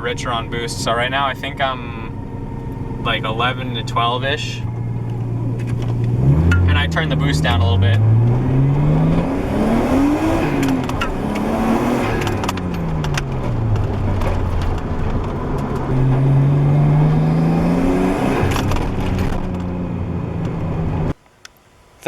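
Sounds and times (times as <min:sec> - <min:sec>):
car engine through loud exhaust: 0:00.0 - 0:21.2.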